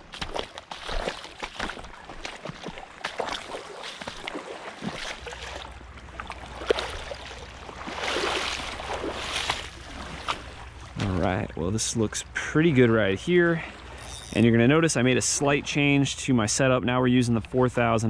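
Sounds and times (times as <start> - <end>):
wading through shallow water: 0.0 - 18.0.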